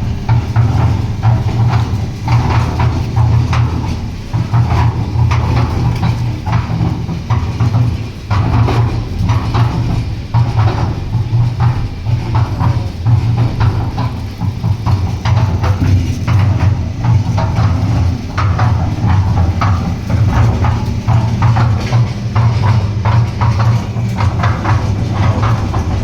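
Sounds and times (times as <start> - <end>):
clattering and knocking: 0.0 - 26.0
concrete mixer engine droning: 0.0 - 26.0.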